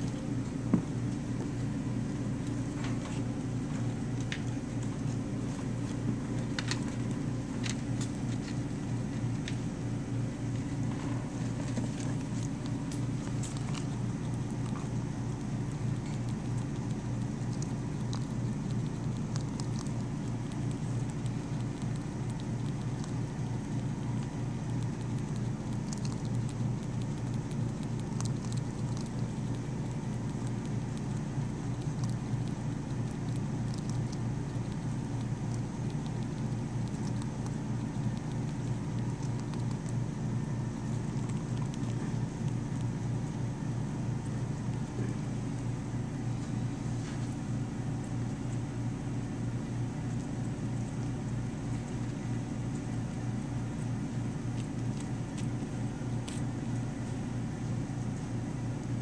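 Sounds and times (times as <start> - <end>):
rats chewing: 0.0 - 59.0
steady low hum: 0.0 - 59.0.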